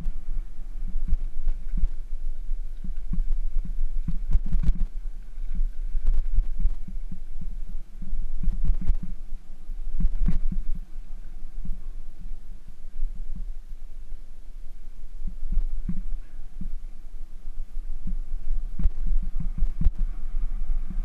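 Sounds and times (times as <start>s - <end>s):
bicycle rolling over bumpy dirt: 0.0s - 14.0s, 15.1s - 21.0s.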